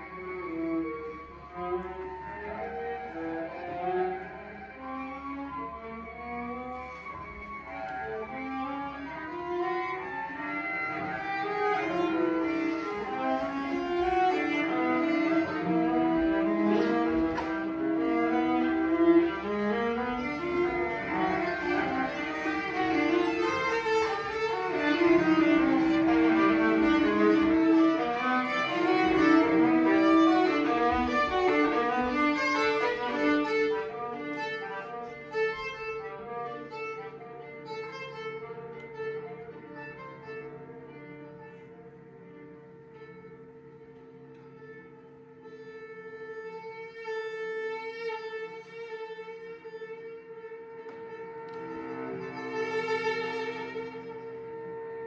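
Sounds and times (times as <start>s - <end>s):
cello playing: 0.0s - 55.0s
viola playing: 0.0s - 55.0s.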